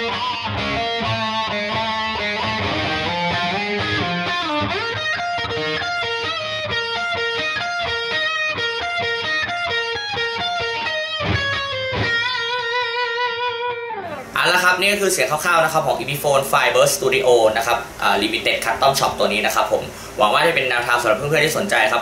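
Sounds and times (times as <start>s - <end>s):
electric guitar lead line: 0.0s - 22.0s.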